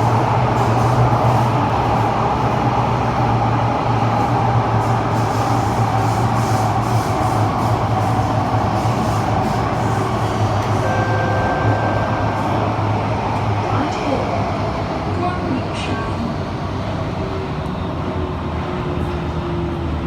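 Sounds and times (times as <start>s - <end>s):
train rumble with whine: 0.0s - 20.0s.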